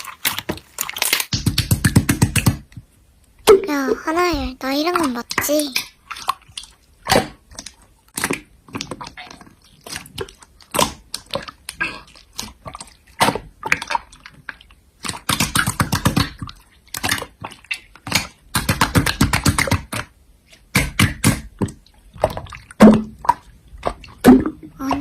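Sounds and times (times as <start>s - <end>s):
slime squishing with sticky clicks: 0.0s - 25.0s.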